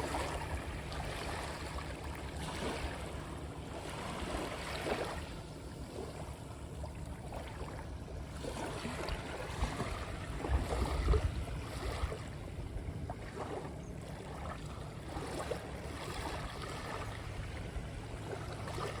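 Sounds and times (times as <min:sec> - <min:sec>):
sea water washing and lapping: 0:00.0 - 0:19.0.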